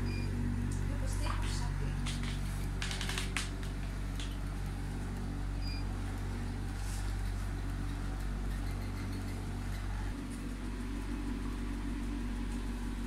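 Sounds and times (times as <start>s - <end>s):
massage machine motor hum: 0.0s - 13.0s.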